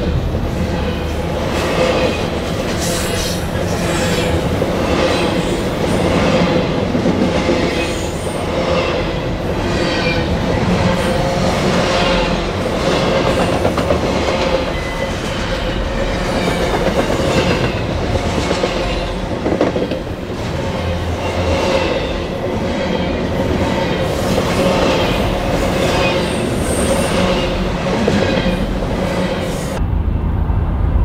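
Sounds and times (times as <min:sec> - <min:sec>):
train wheels rolling on rail: 0:00.0 - 0:29.8.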